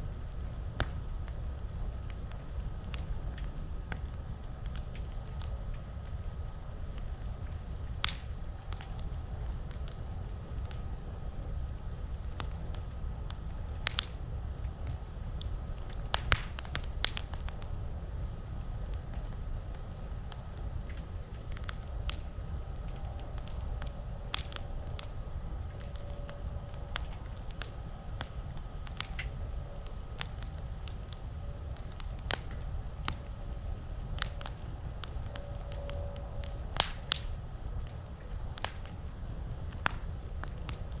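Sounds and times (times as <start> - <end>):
campfire crackling and popping: 0.0 - 41.0
low steady rumble: 0.0 - 41.0.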